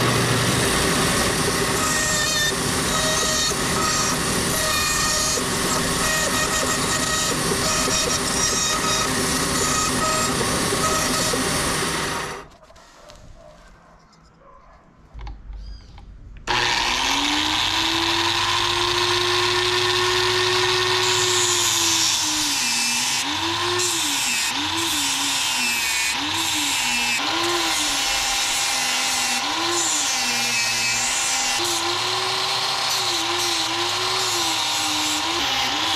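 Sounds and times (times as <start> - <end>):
angle grinder sanding: 0.2 - 12.5, 16.5 - 35.9.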